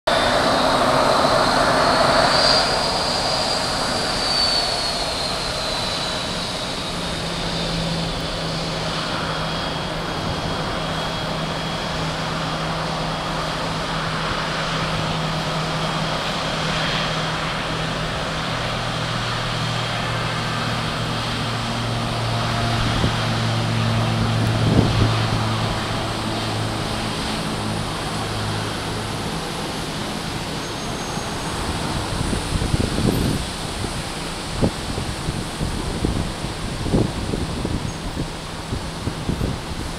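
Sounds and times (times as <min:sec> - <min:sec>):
propeller plane hum: 0:00.0 - 0:39.9.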